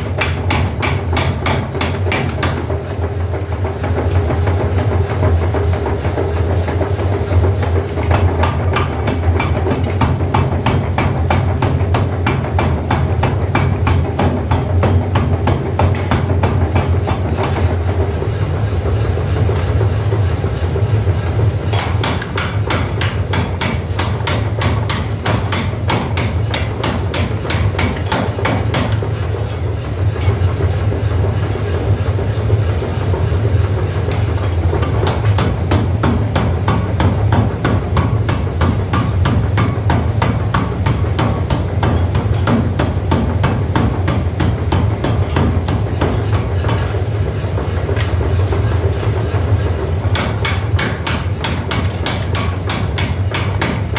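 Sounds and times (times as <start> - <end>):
forging hammer pounding steel: 0.0 - 4.7, 5.3 - 18.1, 19.2 - 53.9
low machine hum: 0.0 - 53.9.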